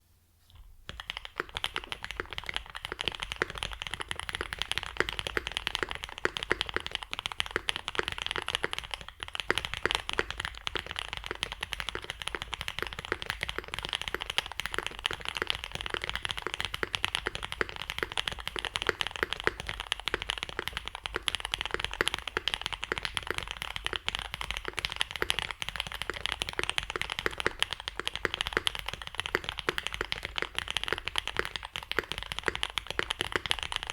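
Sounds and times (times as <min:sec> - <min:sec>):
fast mechanical keyboard typing: 0:00.9 - 0:33.9.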